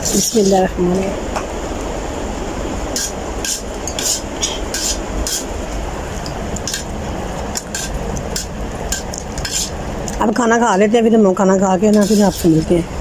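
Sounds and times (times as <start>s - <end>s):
steady rushing background noise: 0.0s - 13.0s.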